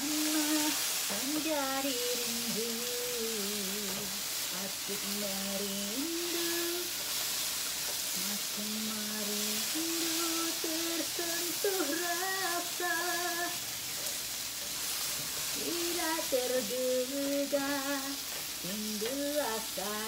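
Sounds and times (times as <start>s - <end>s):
woman singing slow melody: 0.0s - 7.1s, 7.9s - 13.7s, 15.3s - 20.0s
potatoes sizzling in a pan: 0.0s - 20.0s.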